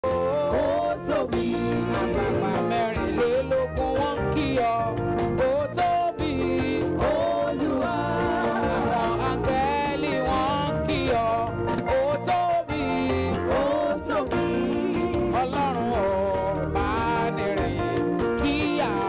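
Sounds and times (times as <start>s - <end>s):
instrumental backing: 0.0s - 19.0s.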